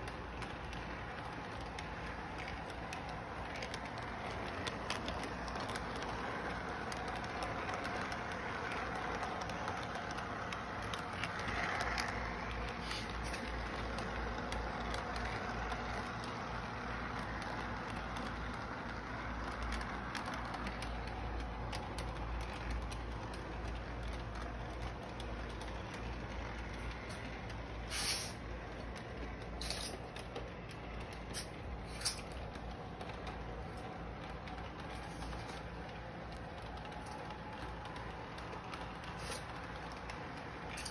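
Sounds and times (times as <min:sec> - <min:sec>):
toy train motor humming: 0:00.0 - 0:40.9.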